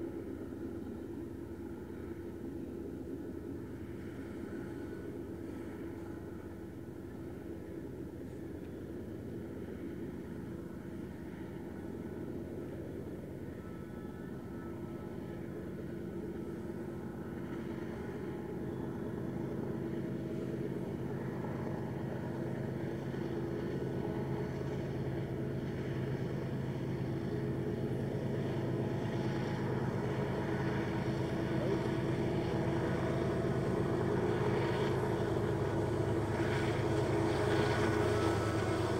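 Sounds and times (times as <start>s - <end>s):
locomotive engine drone: 0.0s - 38.9s.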